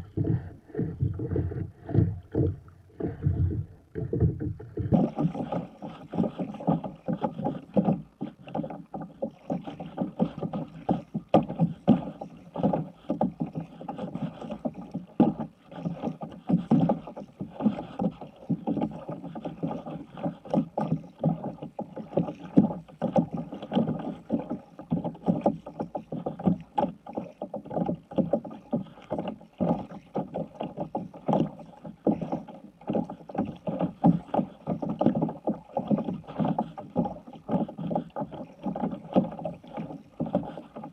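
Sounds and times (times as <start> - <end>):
water splashing around kayak: 0.0 - 40.9
waves knocking on hull: 0.0 - 40.9.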